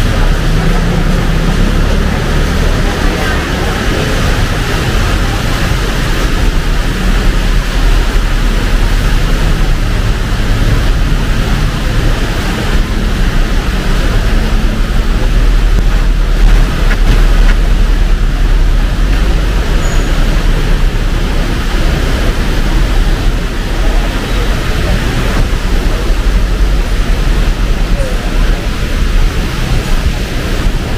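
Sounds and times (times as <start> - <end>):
heavy rain pouring: 0.0 - 30.9
road traffic rumble: 0.0 - 30.9.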